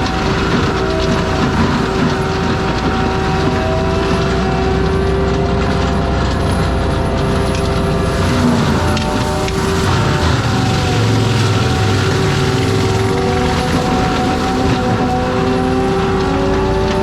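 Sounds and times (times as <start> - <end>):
forestry mulcher diesel rumble: 0.0 - 17.0.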